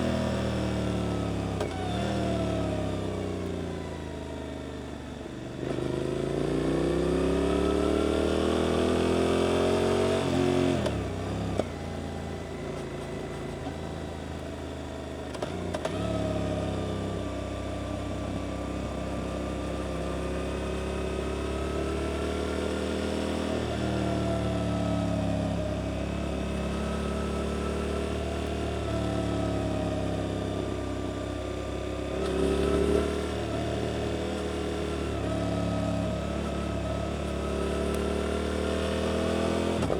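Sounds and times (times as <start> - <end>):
motorcycle engine revving: 0.0 - 4.5, 5.6 - 12.1, 14.3 - 39.9.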